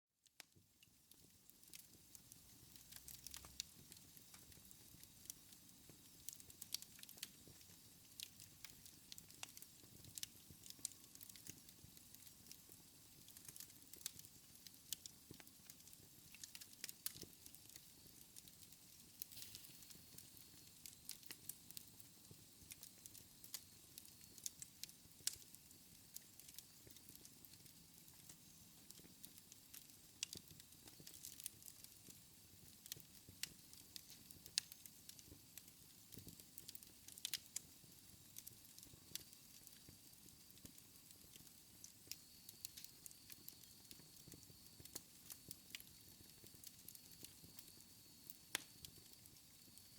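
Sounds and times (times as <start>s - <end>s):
fire crackling and popping: 0.2s - 49.9s.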